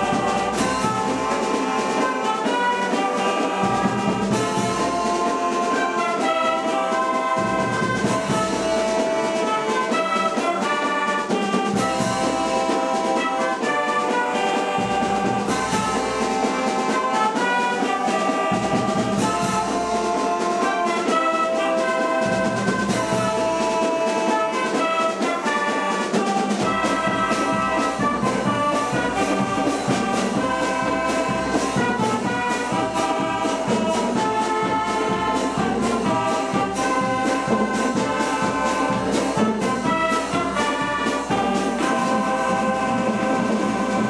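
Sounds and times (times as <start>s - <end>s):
brass band playing chords: 0.0s - 44.0s.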